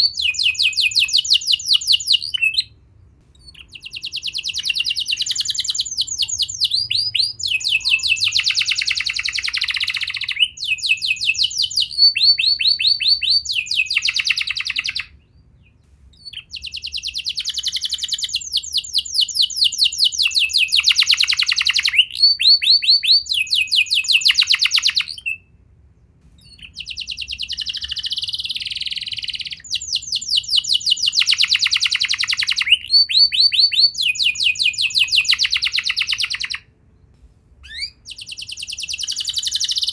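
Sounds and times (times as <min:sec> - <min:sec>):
canary singing trills: 0:00.0 - 0:25.6, 0:26.2 - 0:36.7, 0:37.6 - 0:39.9.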